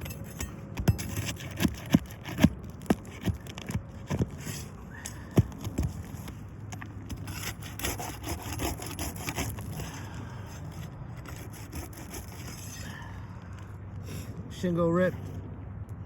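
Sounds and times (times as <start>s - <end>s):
tool scraping under roof shingles: 0.0s - 14.3s.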